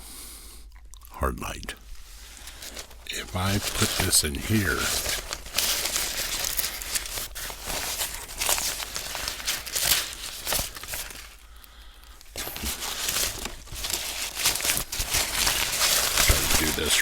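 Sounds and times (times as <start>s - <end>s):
plastic sheet rustling and crinkling: 2.0s - 17.0s.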